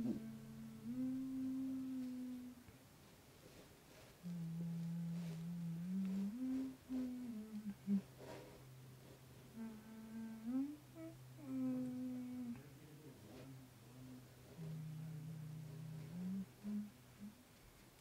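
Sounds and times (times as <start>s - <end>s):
person humming a slow tune: 0.0s - 2.7s, 4.2s - 8.4s, 9.5s - 17.5s
steady low hum: 0.0s - 18.0s.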